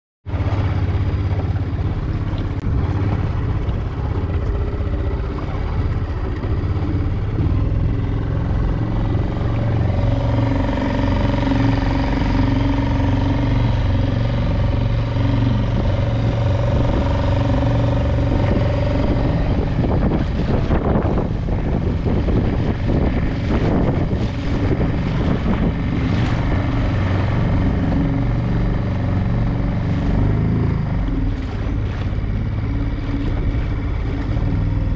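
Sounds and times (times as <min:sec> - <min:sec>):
outboard motor droning: 0:00.2 - 0:34.9
water rushing and splashing: 0:00.3 - 0:34.9
wind noise: 0:00.3 - 0:34.9.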